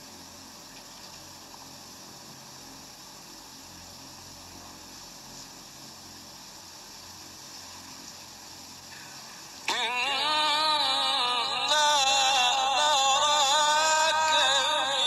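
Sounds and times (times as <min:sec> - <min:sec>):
microphone hiss: 0:00.0 - 0:15.0.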